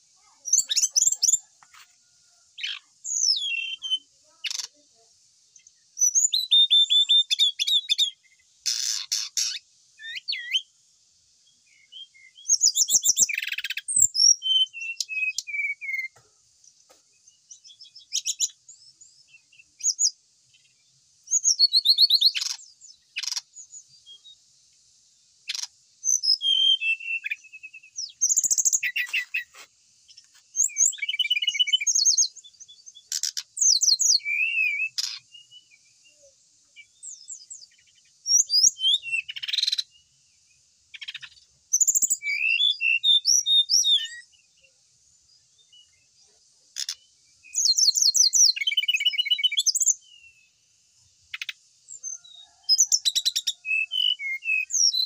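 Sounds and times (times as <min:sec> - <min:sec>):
bird singing whistles and trills: 0:00.2 - 0:01.5, 0:02.6 - 0:04.8, 0:05.6 - 0:10.7, 0:11.5 - 0:16.2, 0:17.5 - 0:24.4, 0:25.5 - 0:29.5, 0:30.6 - 0:40.2, 0:40.9 - 0:44.8, 0:46.8 - 0:50.6, 0:51.3 - 0:55.0.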